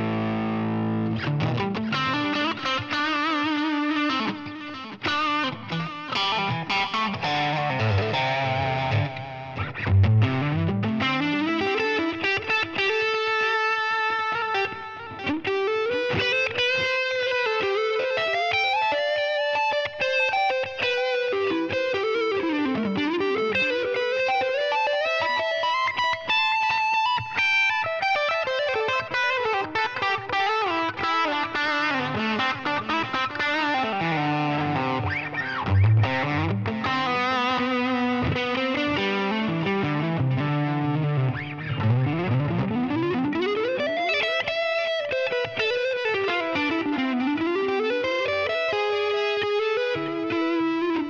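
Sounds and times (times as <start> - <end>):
electric guitar lead solo: 0.0 - 51.0.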